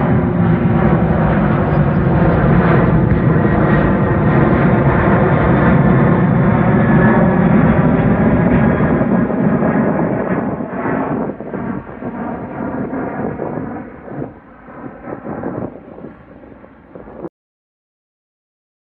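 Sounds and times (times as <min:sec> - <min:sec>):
airliner engine rumble: 0:00.0 - 0:17.3.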